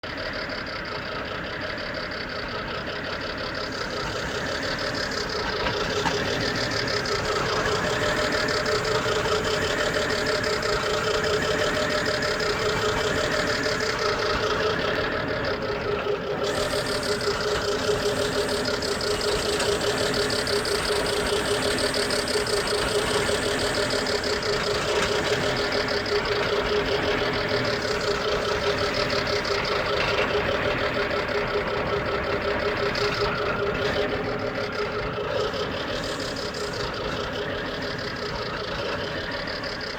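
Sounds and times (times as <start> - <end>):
car engine knocking: 0.0 - 39.9
engine whine: 0.0 - 39.9.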